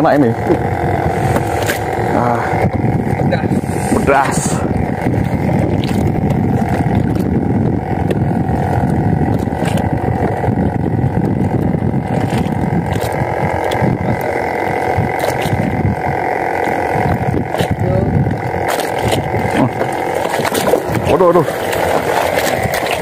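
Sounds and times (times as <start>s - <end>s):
boat engine running: 0.0s - 23.0s
wind rumbling on microphone: 0.0s - 23.0s.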